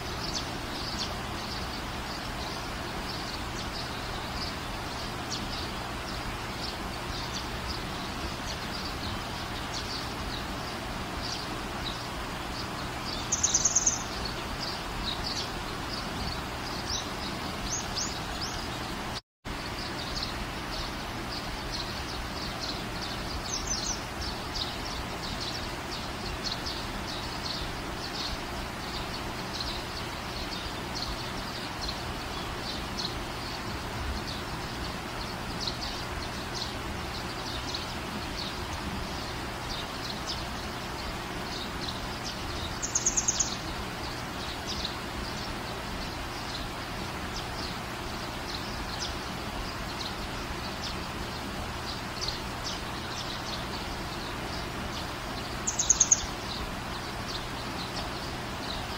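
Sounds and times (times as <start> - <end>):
birds chirping: 0.0 - 58.9
steady background noise: 0.0 - 58.9.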